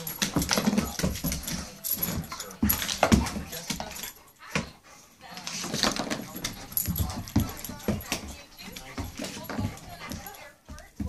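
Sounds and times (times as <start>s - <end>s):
dog claws clicking on hardwood floor: 0.0s - 4.7s, 5.4s - 11.0s.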